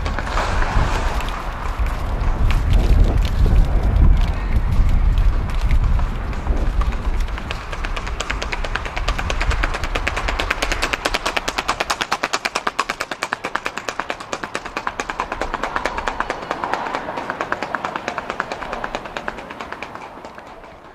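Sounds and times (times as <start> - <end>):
horse hooves on asphalt: 0.0 - 20.9.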